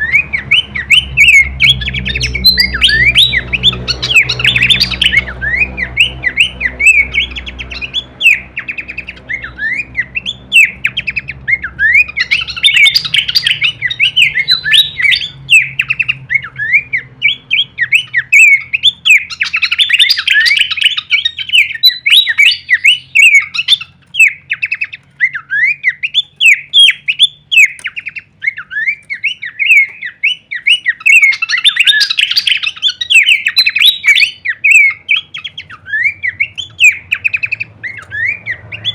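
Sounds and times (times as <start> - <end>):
bird singing chirping notes: 0.0 - 38.9.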